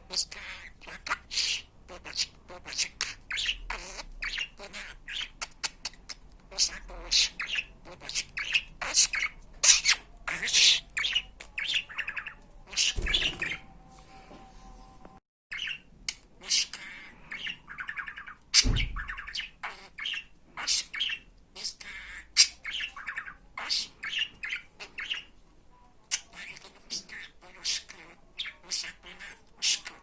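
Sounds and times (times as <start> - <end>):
budgerigar chirping: 0.0 - 13.7, 15.5 - 25.3, 26.1 - 30.0.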